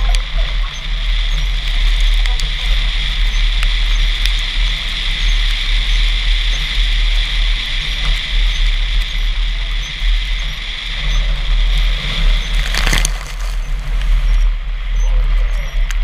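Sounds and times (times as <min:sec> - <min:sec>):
road rumble: 0:00.0 - 0:16.0
wind on camera: 0:00.0 - 0:16.0.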